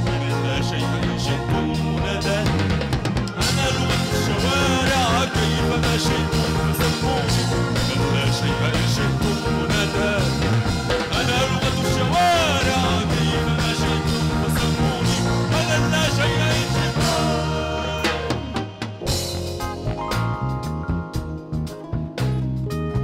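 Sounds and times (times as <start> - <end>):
man singing: 0.0 - 19.1
live rock band playing: 0.0 - 23.0.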